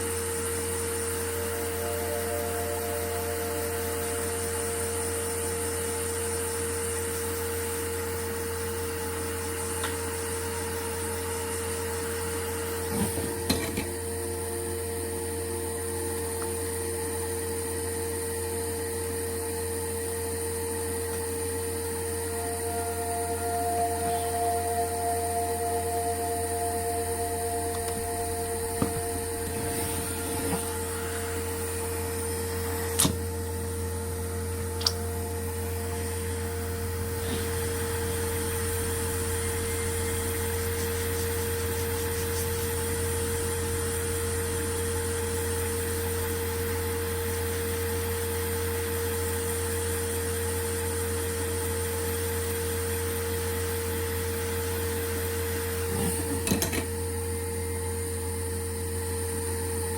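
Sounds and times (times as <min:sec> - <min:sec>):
electrical hum of equipment: 0:00.0 - 0:59.9.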